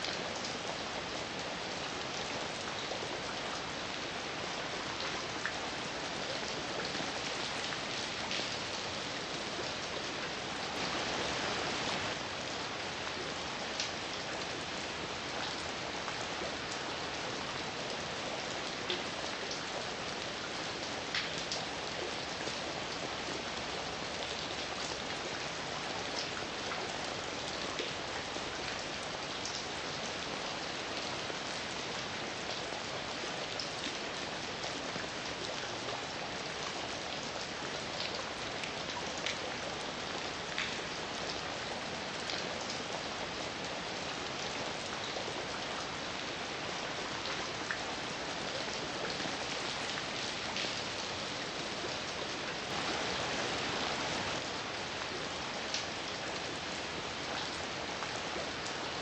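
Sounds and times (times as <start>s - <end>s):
heavy rain falling: 0.0s - 58.7s
raindrops ticking on a surface: 0.0s - 58.8s.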